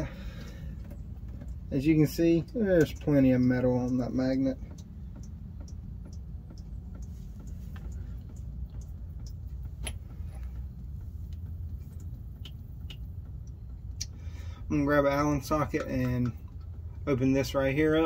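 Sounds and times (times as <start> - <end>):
steady low rumble: 0.0 - 18.0
light ticks and click: 0.4 - 18.0.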